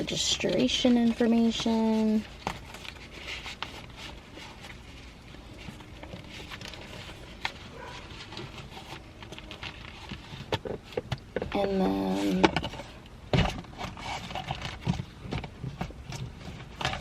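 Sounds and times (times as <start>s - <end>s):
papers rustling: 0.0s - 17.0s.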